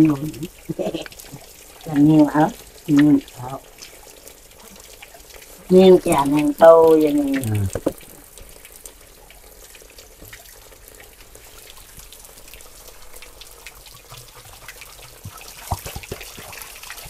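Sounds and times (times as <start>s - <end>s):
water drips and splashes: 0.0s - 17.0s
water trickling from a spout: 0.0s - 17.0s.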